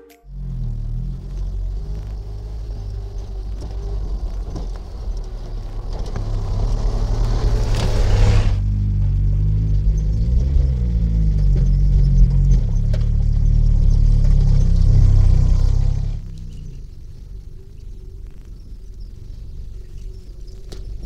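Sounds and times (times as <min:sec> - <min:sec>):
car engine rumble: 0:00.2 - 0:21.0
tyre noise on dirt: 0:00.3 - 0:21.0.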